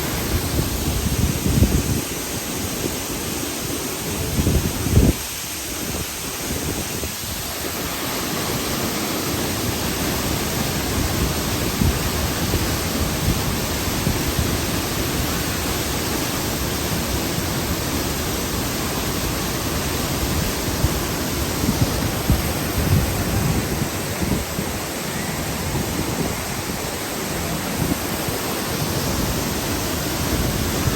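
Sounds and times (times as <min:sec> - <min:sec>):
waterfall pouring: 0:00.0 - 0:30.9.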